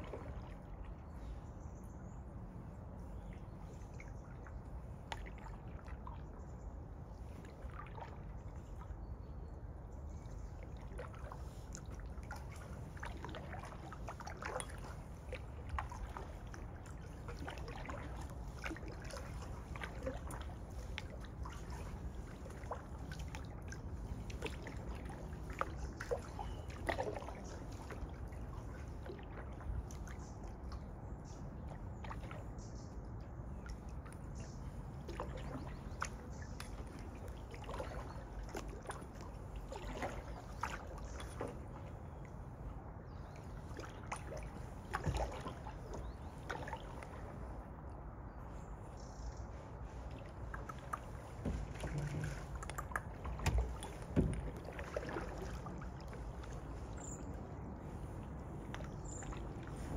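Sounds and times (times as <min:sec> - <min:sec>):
low steady rumble: 0:00.0 - 0:59.9
paddle splashes and drips: 0:00.0 - 0:59.9.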